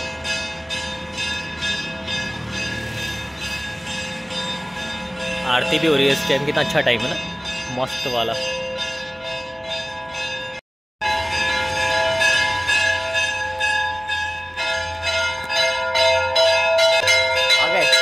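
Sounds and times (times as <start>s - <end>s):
temple bells clanging: 0.0s - 18.0s.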